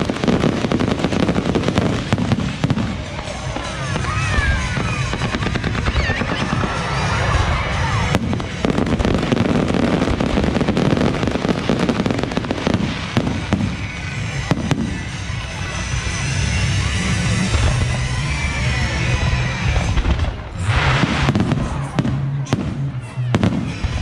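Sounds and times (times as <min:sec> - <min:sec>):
fireworks crackling and popping: 0:00.0 - 0:24.0
music playing: 0:00.0 - 0:24.0.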